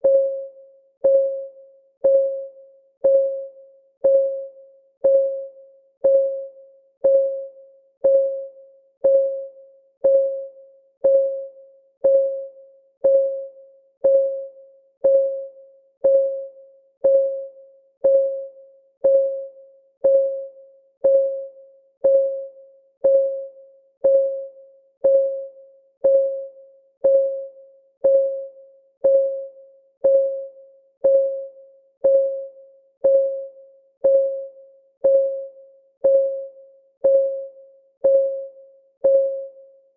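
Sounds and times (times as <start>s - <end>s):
timer ticking: 1.0s - 39.6s.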